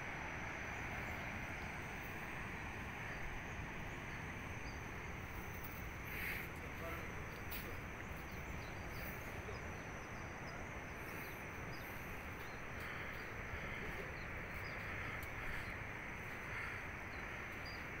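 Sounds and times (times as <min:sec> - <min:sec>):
small birds chirping faintly: 0:00.0 - 0:18.0
steady outdoor hiss: 0:00.0 - 0:18.0.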